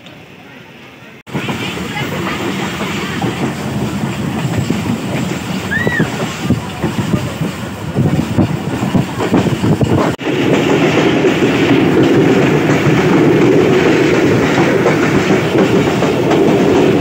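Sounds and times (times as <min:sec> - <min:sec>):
train wheels rumbling and rattling: 0:00.0 - 0:17.0
rail joint clacks: 0:00.8 - 0:17.0.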